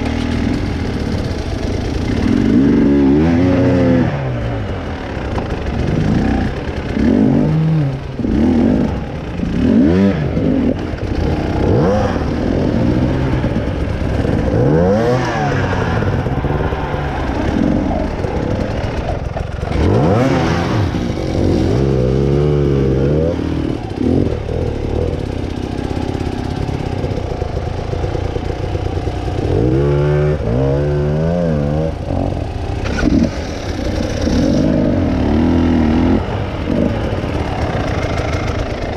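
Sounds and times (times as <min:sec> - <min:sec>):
trail motorcycle engine revving: 0:00.0 - 0:38.9.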